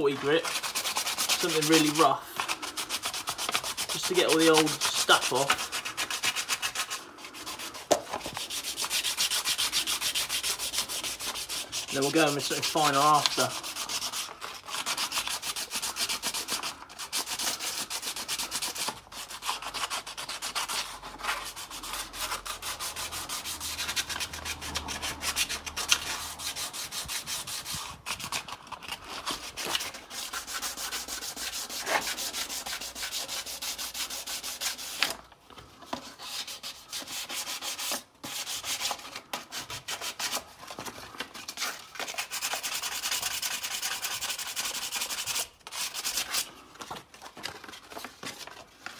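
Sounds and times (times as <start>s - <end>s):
sandpaper scraping metal: 0.0s - 35.1s, 36.0s - 40.6s, 41.4s - 46.6s.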